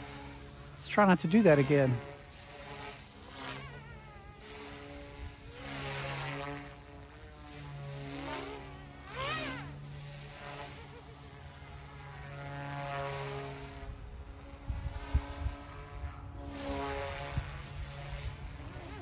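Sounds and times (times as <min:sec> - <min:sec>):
rc helicopter rotor hum and whine: 0:00.0 - 0:19.0.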